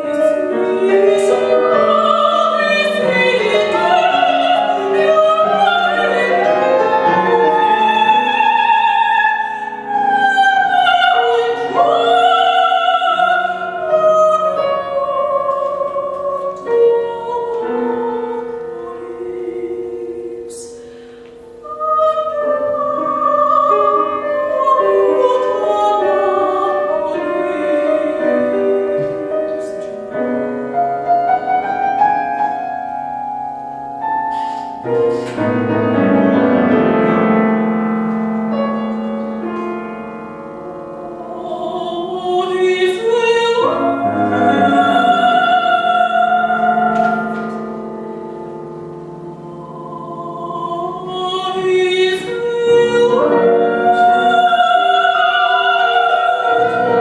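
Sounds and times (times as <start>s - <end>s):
piano accompaniment: 0.0s - 57.0s
soprano singing: 0.0s - 57.0s.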